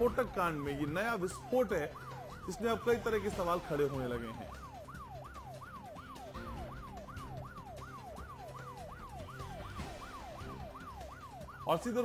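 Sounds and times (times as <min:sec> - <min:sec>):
siren-like sweeping tone: 0:00.0 - 0:11.8.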